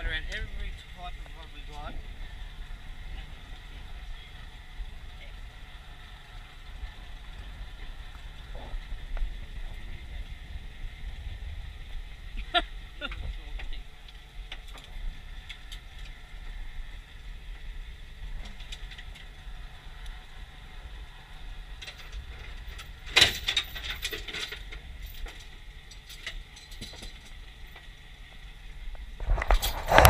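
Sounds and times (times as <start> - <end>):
outboard motor idling: 0.0 - 26.5.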